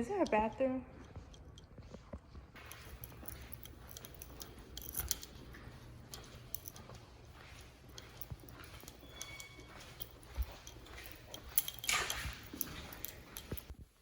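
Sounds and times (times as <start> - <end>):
objects being handled: 0.0 - 14.0.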